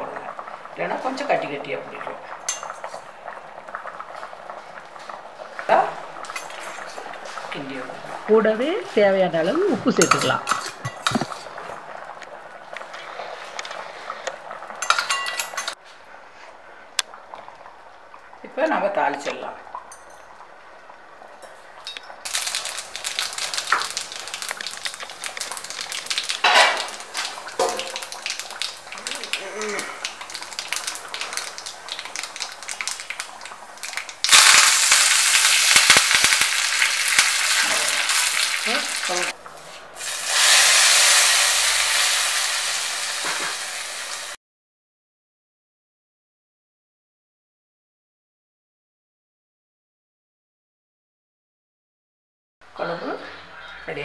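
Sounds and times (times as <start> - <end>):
seeds crackling in hot oil: 0.0 - 44.4.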